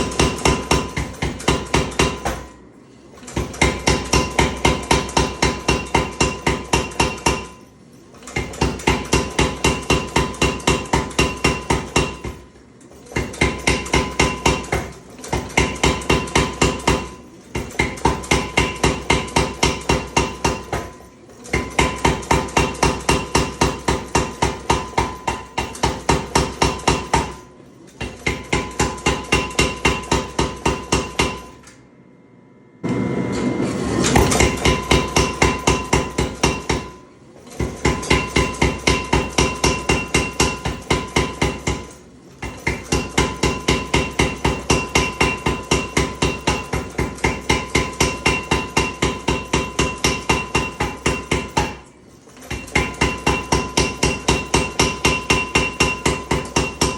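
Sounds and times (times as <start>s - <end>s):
power hammer striking steel: 0.0s - 31.8s, 32.8s - 56.9s.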